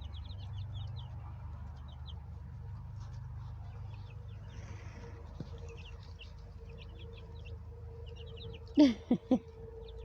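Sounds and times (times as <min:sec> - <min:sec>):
baby chicks peeping: 0:00.0 - 0:10.0
low hum: 0:00.0 - 0:10.0.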